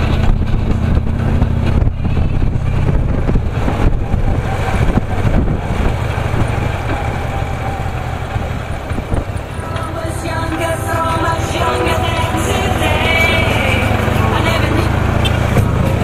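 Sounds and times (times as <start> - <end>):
motorcycle engine running: 0.0 - 16.0
wind and road noise hiss: 0.0 - 16.0.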